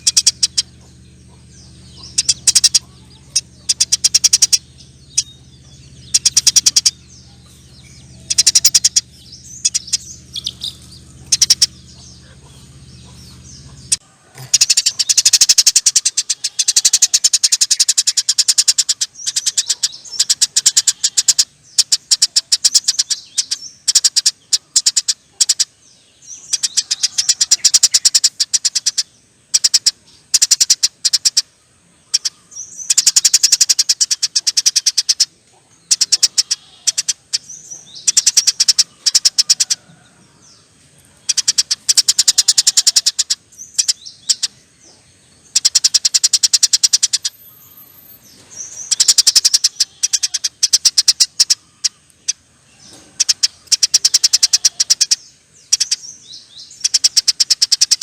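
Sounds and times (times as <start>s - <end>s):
sparrow chattering rattles: 0.0s - 25.7s, 26.3s - 31.5s, 32.1s - 40.0s, 41.2s - 44.6s, 45.4s - 58.0s
steady low hum: 0.0s - 58.0s.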